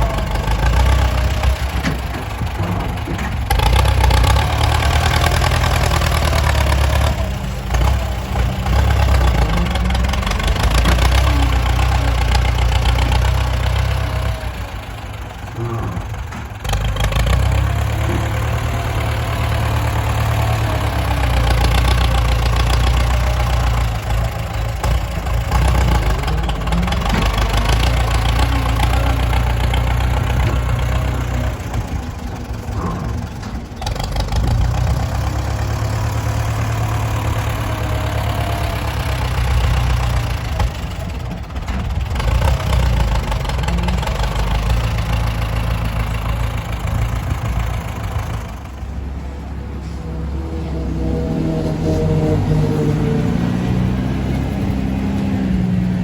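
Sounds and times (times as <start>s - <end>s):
heavy diesel engine rumbling: 0.0s - 56.0s.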